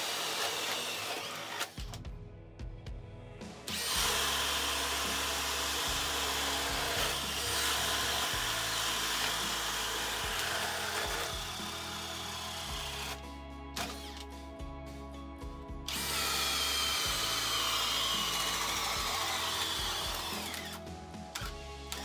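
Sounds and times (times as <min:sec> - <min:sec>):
cordless drill boring: 0:00.0 - 0:01.9, 0:03.7 - 0:13.2, 0:13.8 - 0:14.3, 0:15.9 - 0:22.0
background music: 0:00.0 - 0:22.0.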